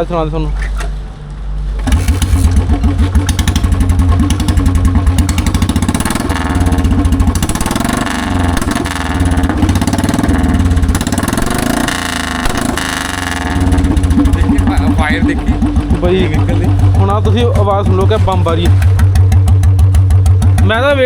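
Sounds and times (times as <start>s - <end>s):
motorcycle engine revving: 1.8s - 21.0s.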